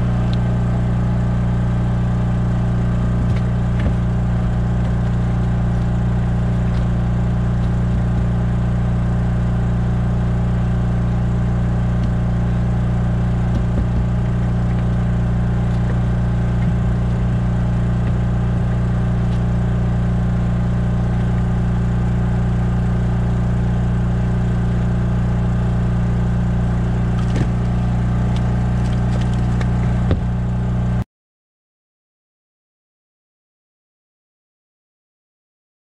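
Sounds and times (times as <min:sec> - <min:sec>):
engine droning steadily: 0:00.0 - 0:31.0.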